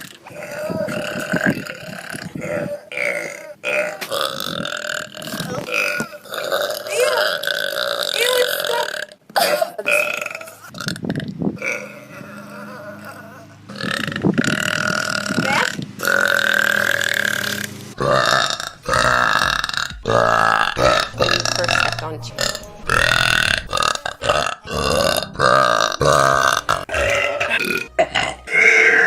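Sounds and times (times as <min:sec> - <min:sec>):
girl burping: 0:00.4 - 0:17.0, 0:18.0 - 0:29.0.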